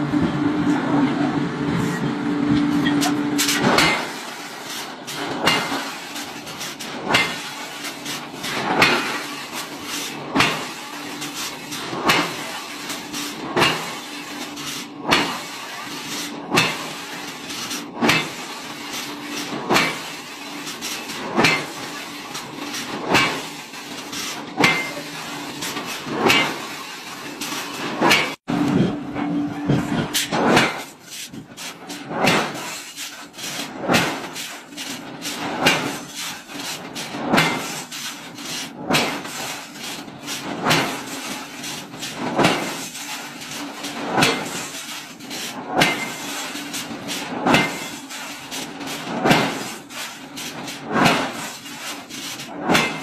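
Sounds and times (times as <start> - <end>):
machine hum: 0.0 - 15.2, 16.4 - 45.7
forging machine striking steel: 1.7 - 53.0.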